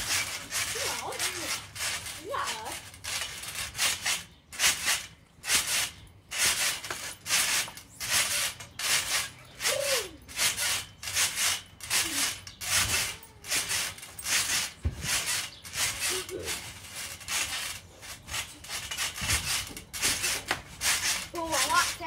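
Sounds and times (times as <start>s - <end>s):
trampoline rasping: 0.0s - 22.0s.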